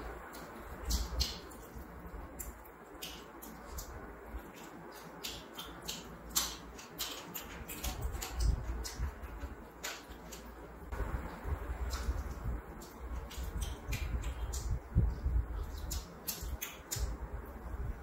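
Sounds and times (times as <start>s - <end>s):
fingers mixing rice on steel plate: 0.0s - 18.0s
chewing: 0.2s - 10.7s, 11.8s - 17.8s.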